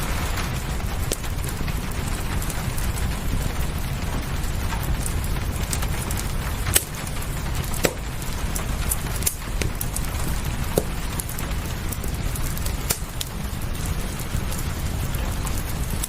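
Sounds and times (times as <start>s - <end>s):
burning wood popping: 0.0s - 16.0s
fireplace crackling: 0.0s - 16.0s
steady rain: 0.0s - 16.0s.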